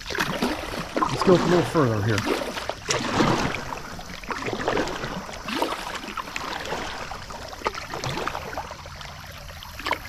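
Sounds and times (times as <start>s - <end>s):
paddle splashing in water: 0.0s - 10.0s.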